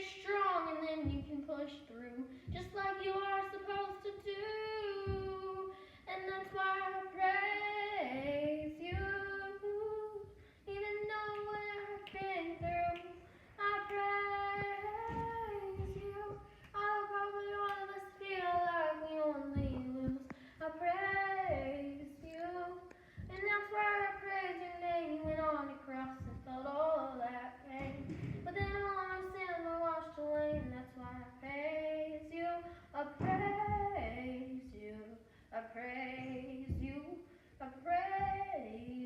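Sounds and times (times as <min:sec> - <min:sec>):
child singing: 0:00.0 - 0:39.0.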